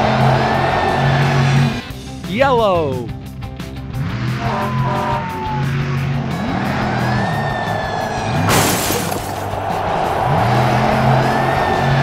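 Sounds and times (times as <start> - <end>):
cartoon truck engine revving: 0.0 - 2.0, 3.6 - 9.0, 9.6 - 12.0
background music: 0.0 - 12.0.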